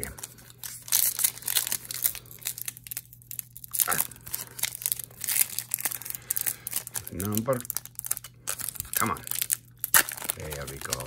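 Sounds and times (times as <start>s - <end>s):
plastic wrapper tearing and crinkling: 0.0s - 11.0s.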